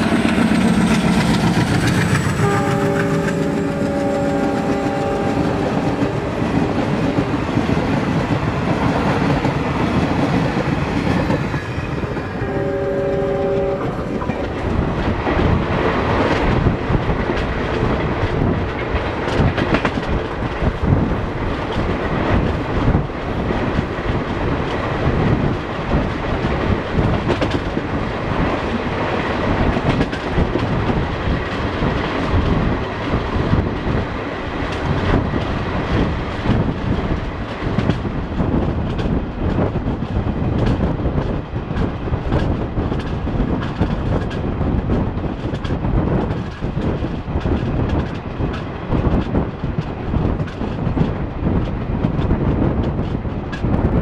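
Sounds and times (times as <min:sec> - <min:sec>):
train rumble and rush: 0:00.0 - 0:54.0.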